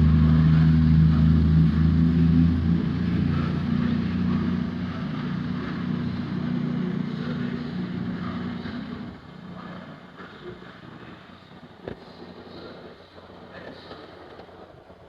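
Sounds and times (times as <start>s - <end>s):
large vehicle engine droning: 0.0s - 15.0s.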